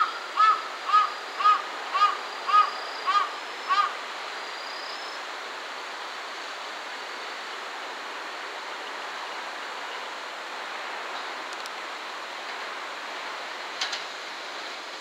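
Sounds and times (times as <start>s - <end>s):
outdoor rushing hiss: 0.0s - 15.0s.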